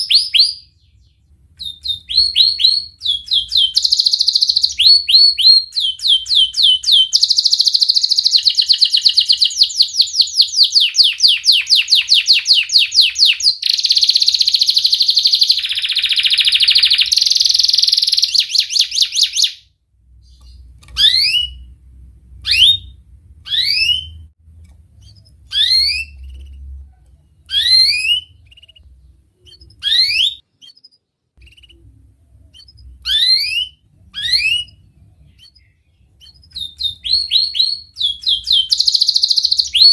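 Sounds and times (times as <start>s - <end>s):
canary singing: 0.0s - 21.8s, 22.4s - 39.9s.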